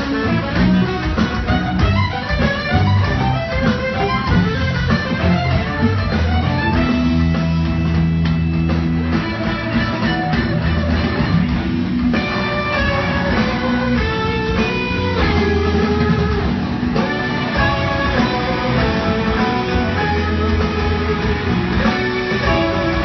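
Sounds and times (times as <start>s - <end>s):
held bass notes: 0.0s - 23.0s
live rock band playing: 0.0s - 23.0s.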